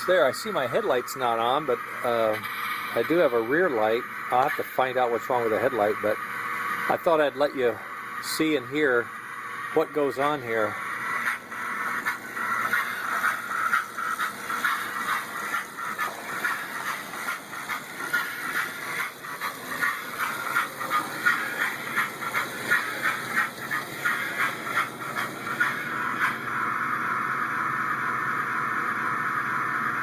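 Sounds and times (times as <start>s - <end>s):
model locomotive clattering: 0.0s - 26.6s.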